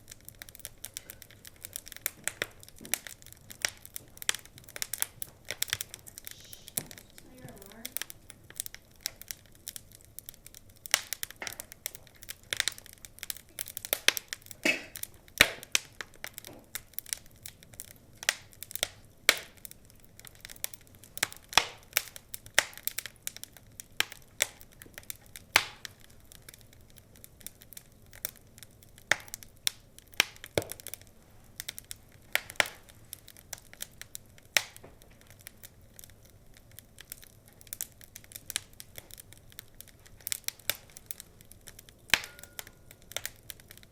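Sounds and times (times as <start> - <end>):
log fire crackling: 0.0 - 43.9.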